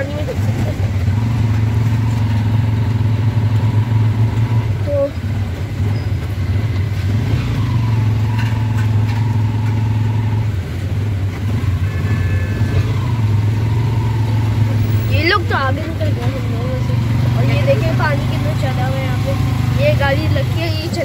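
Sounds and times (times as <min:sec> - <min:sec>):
auto-rickshaw engine running: 0:00.0 - 0:21.0.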